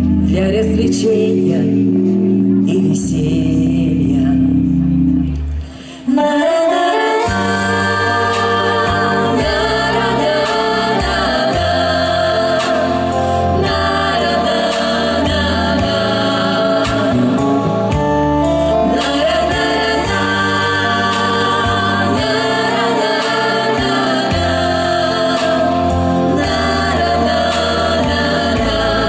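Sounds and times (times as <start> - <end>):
instrumental accompaniment: 0.0 - 29.0
female vocal group singing: 2.7 - 4.6, 6.0 - 17.7, 18.6 - 29.0.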